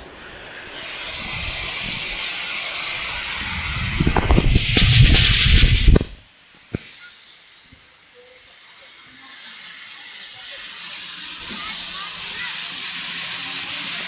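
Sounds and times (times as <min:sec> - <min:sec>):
high-pitched hiss: 0:00.0 - 0:14.0.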